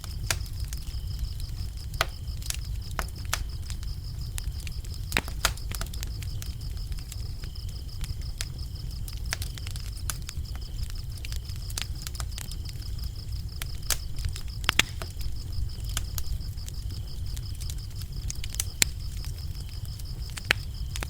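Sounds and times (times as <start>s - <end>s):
crickets chirping: 0.0s - 21.0s
wood fire crackling and popping: 0.0s - 21.0s.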